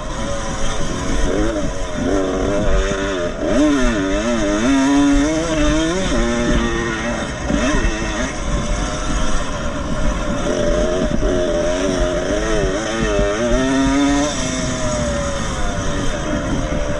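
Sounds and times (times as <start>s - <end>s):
two-stroke motorcycle engines revving: 0.0s - 16.9s.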